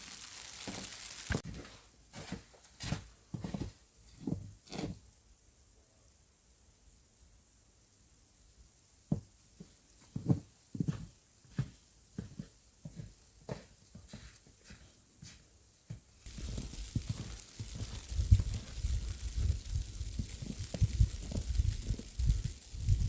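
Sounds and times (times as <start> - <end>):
steady hiss: 0.0 - 2.1, 5.0 - 23.0.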